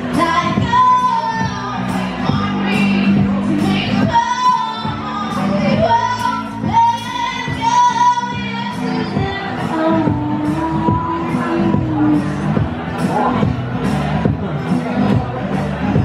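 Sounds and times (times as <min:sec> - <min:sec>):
person singing: 0:00.0 - 0:14.1.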